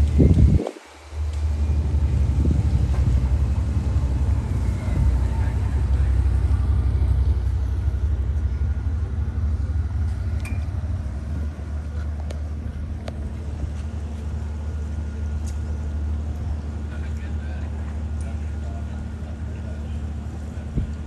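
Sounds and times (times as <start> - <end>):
yacht engines rumbling: 0.0 - 21.0.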